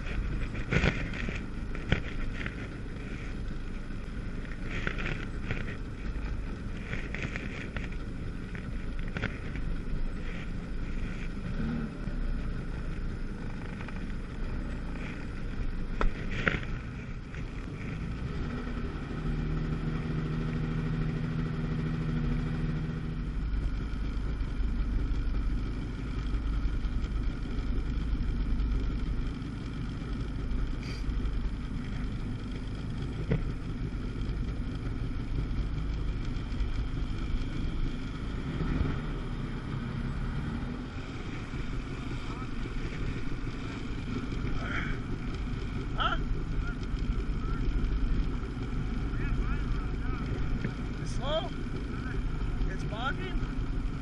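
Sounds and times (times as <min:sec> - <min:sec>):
watercraft engine running: 0:00.0 - 0:54.0.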